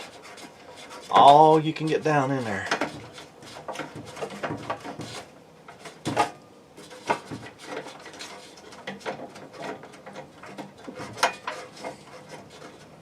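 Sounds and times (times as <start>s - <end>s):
small metallic clicks and scrapes: 0.0s - 13.0s.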